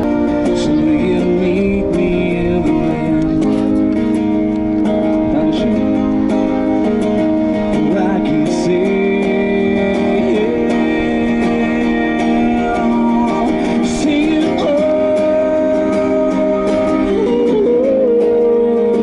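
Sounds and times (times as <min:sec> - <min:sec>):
amplified guitar music: 0:00.0 - 0:19.0.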